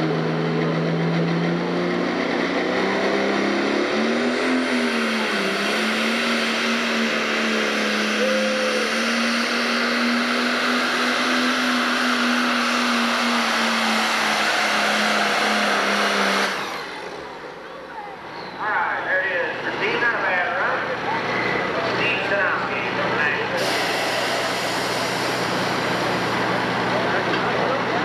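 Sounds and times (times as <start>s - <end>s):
diesel tractor engine under load: 0.0s - 28.0s.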